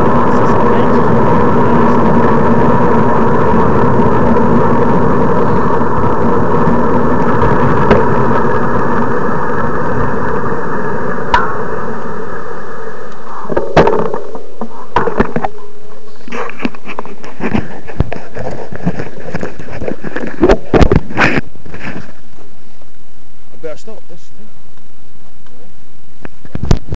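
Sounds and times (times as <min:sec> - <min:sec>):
wind rushing over microphone: 0:00.0 - 0:22.4.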